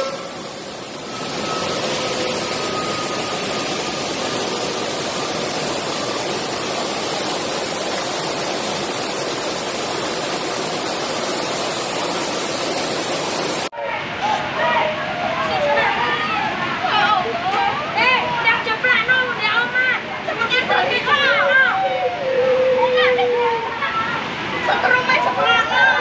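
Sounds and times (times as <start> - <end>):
water rushing through spillway: 0.0 - 26.0.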